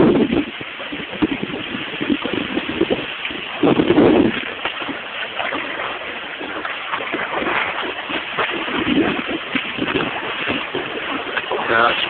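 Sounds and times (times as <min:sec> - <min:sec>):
floodwater rushing: 0:00.0 - 0:12.0
water splashes: 0:00.0 - 0:12.0.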